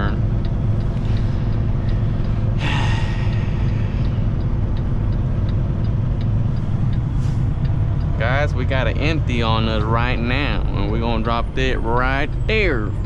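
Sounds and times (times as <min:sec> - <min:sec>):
diesel truck engine running: 0:00.0 - 0:13.0
faint regular ticking: 0:00.0 - 0:13.0.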